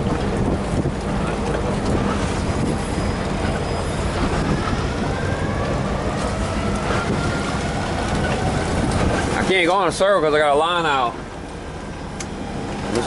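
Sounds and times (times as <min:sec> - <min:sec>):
outboard motor running: 0:00.0 - 0:13.0
wind and water noise: 0:00.0 - 0:13.0.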